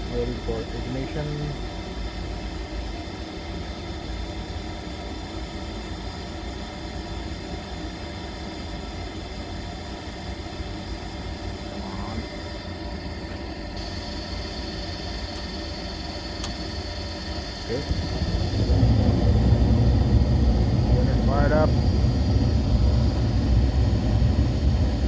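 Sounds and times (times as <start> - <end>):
furnace motor humming with hiss: 0.0 - 25.0.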